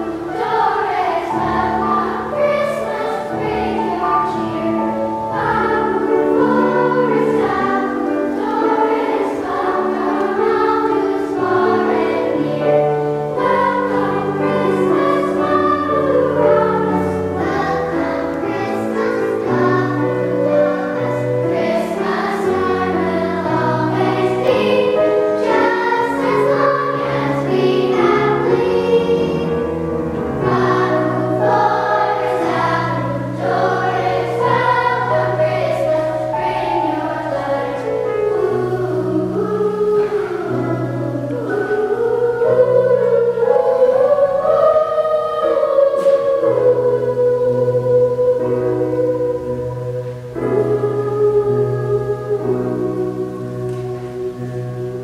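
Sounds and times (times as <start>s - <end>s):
girls' choir singing: 0.0s - 55.0s
piano low notes: 0.0s - 55.0s.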